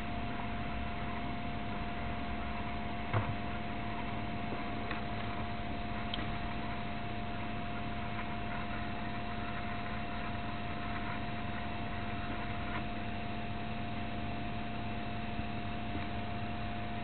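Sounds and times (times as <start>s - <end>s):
cassette recorder hiss and hum: 0.0s - 17.0s.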